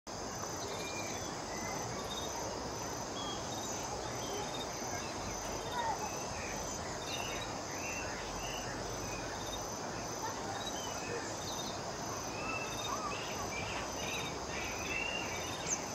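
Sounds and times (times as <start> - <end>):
insects trilling: 0.1 - 15.9.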